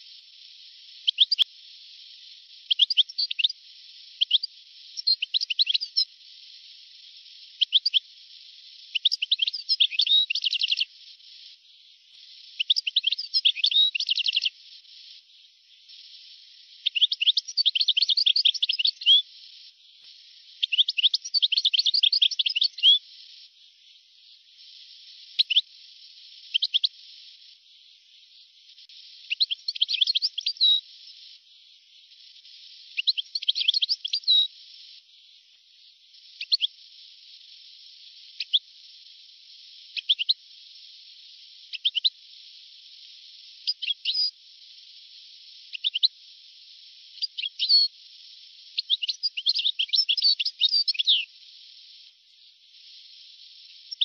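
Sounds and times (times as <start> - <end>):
goldfinch chirps and trills: 0.0 - 54.0.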